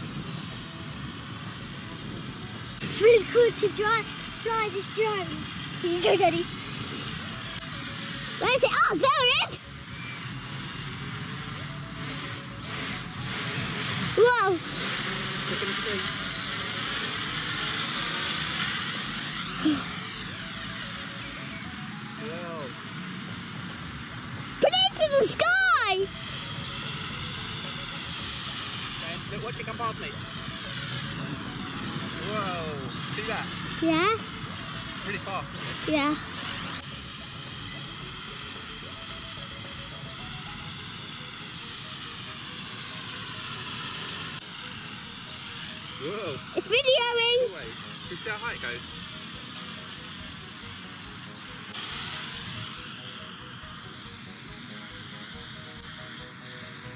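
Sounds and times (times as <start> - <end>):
toy drone propellers whining: 0.0 - 56.9.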